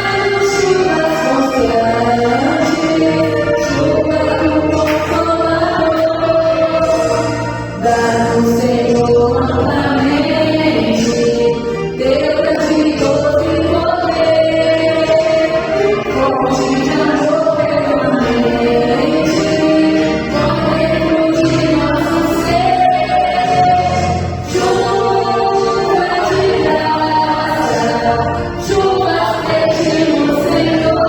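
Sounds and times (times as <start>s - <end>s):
instrumental accompaniment: 0.0s - 31.0s
voices singing together: 0.0s - 31.0s.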